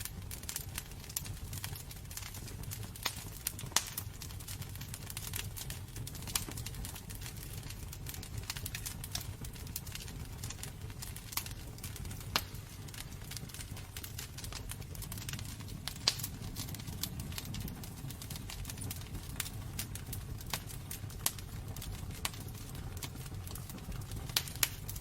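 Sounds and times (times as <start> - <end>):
fire low rumble: 0.0 - 25.0
wood fire crackling and popping: 0.0 - 25.0.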